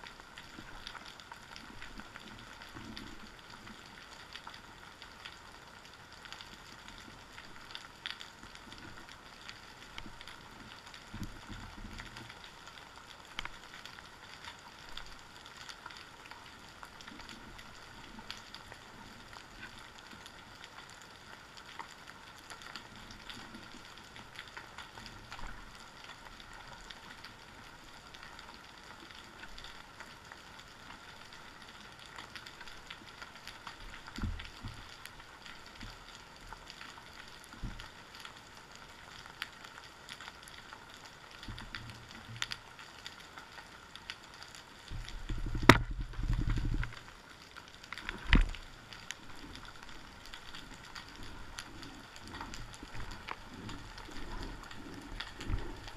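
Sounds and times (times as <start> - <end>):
underwater crackling hiss: 0.0 - 55.9
small clicks: 0.3 - 55.9.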